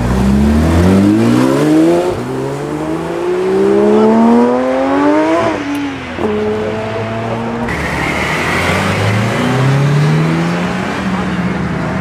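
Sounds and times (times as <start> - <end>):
car engine revving through gears: 0.0 - 10.9.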